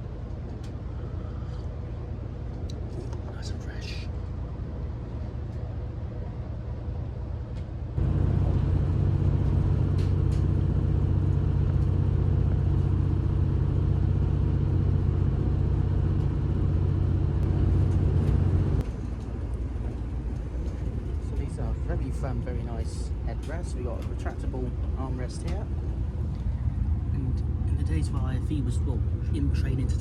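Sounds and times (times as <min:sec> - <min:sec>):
train rumble inside carriage: 0:00.0 - 0:30.0.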